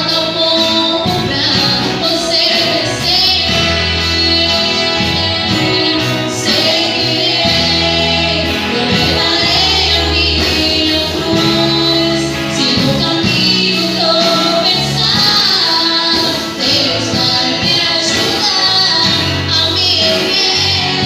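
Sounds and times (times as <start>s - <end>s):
band accompaniment: 0.0s - 21.0s
person singing lead vocal: 0.0s - 21.0s.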